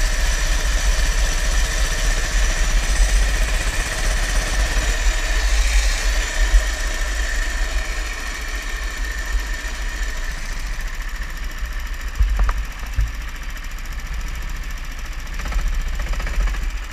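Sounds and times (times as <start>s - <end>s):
go-kart engine pulsing and whining: 0.0s - 16.9s.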